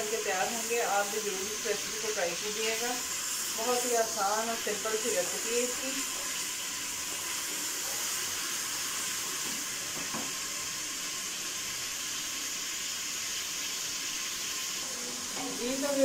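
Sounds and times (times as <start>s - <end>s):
onion sizzling in hot oil: 0.0s - 16.0s.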